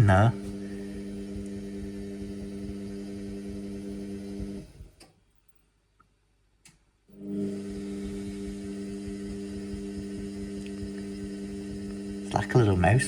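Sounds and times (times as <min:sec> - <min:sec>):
washing machine humming: 0:00.0 - 0:05.0, 0:07.1 - 0:13.0.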